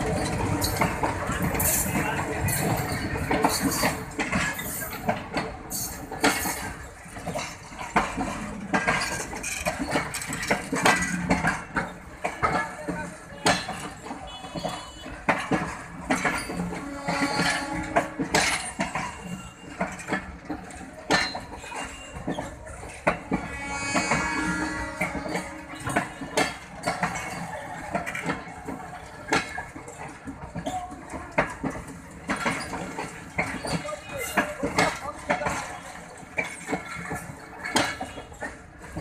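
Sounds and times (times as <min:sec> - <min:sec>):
low train rumble: 0:00.0 - 0:39.0
train wheels clanking on track: 0:00.0 - 0:39.0.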